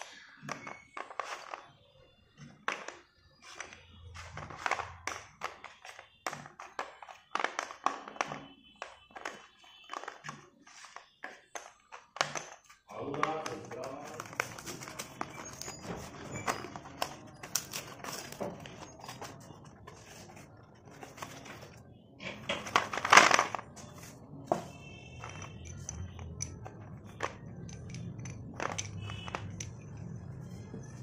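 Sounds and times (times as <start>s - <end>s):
chalk sticks clicking: 0.0s - 1.7s, 2.5s - 21.8s, 23.5s - 31.0s.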